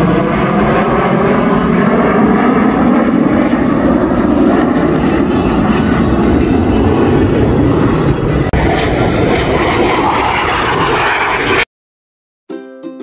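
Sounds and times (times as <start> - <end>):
airplane engine flying past: 0.0 - 11.7.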